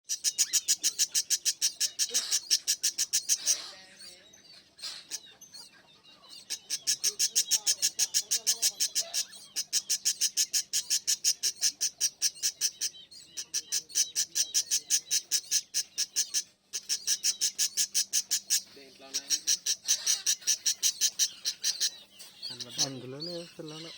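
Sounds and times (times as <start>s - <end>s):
parrots chirping: 0.0s - 23.9s.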